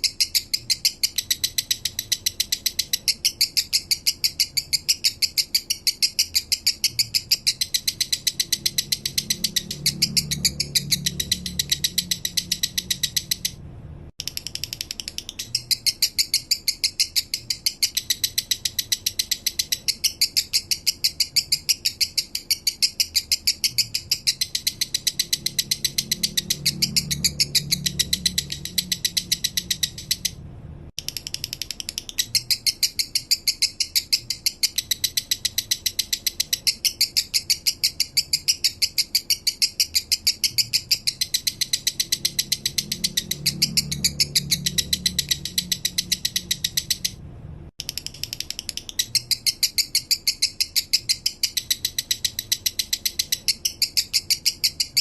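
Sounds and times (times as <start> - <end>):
lovebird chattering song: 0.0 - 13.6, 14.2 - 30.4, 31.0 - 47.2, 47.8 - 55.0.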